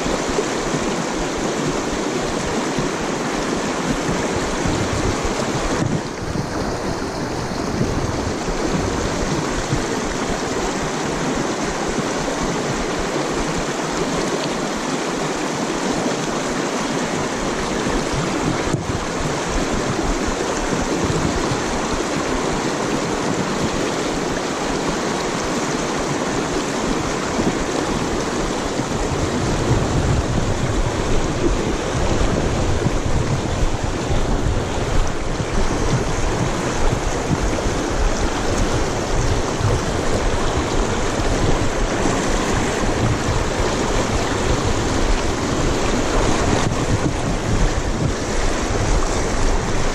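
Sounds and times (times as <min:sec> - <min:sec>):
river water rushing over stones: 0:00.0 - 0:49.9.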